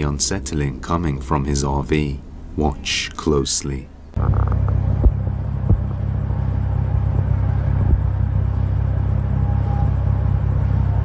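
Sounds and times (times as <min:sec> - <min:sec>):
low rumbling hum: 0:00.0 - 0:11.0.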